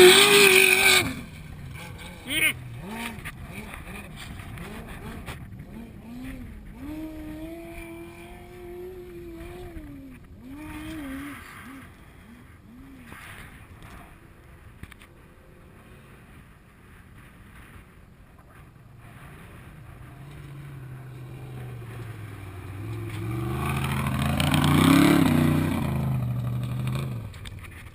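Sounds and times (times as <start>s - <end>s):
race vehicle engine passing: 0.0s - 14.2s, 18.4s - 27.8s.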